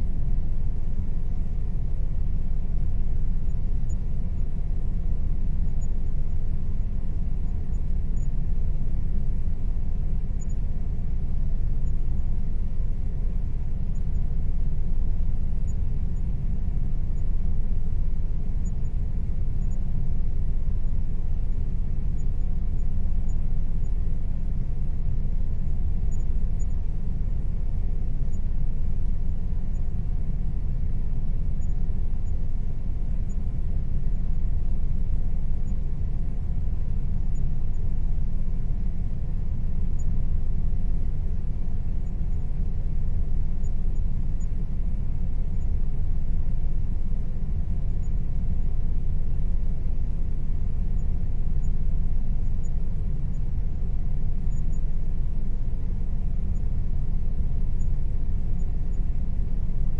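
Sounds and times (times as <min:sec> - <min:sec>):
air conditioner humming: 0:00.0 - 0:54.6
faint steady tone: 0:00.0 - 0:59.9.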